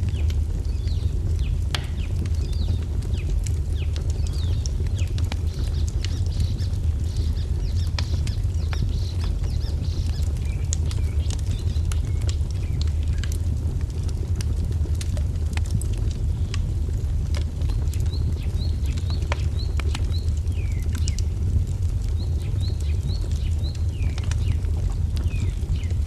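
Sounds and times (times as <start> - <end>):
small birds chirping: 0.0 - 13.4, 17.6 - 21.3, 22.1 - 26.0
wood fire crackling: 0.0 - 26.0.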